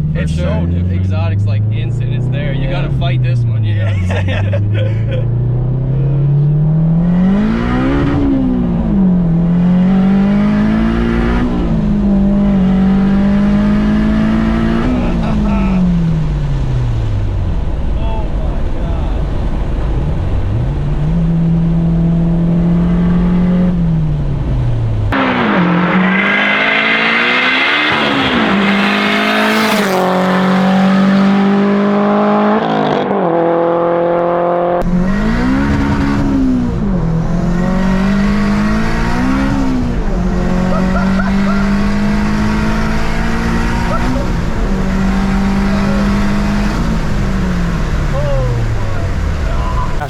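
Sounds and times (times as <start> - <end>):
turbocharged car engine revving: 0.0 - 50.0.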